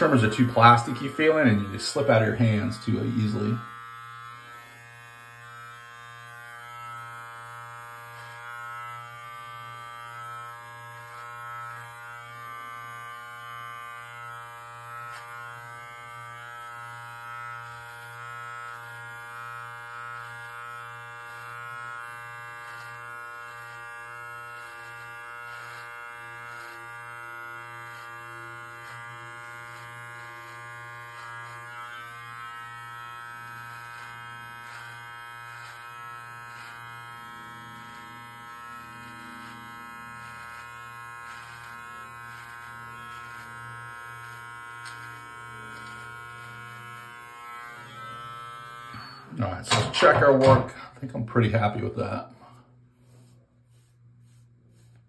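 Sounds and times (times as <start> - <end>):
electric beard trimmer buzzing: 0.0 - 50.7.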